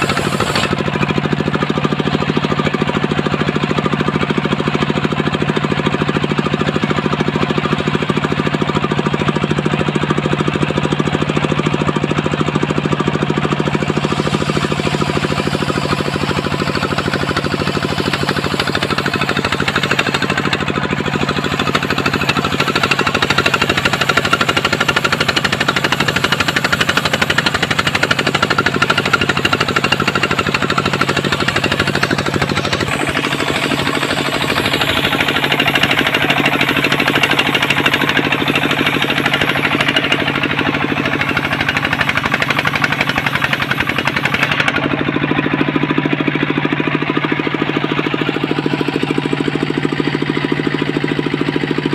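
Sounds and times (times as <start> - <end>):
engine-driven circular saw knocking: 0.0 - 51.9.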